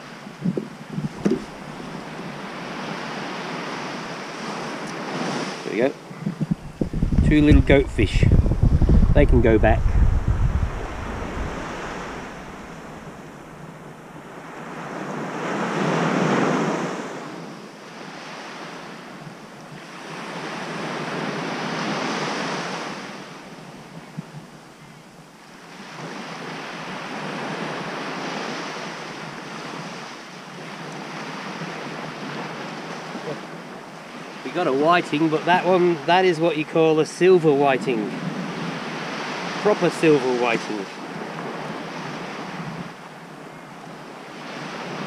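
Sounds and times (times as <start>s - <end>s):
waves breaking on sandy beach: 0.0s - 45.0s.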